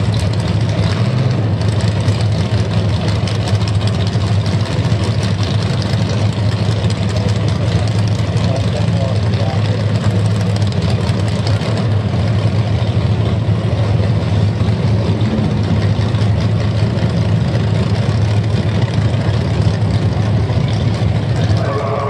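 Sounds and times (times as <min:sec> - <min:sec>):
race car engines idling: 0:00.0 - 0:22.0.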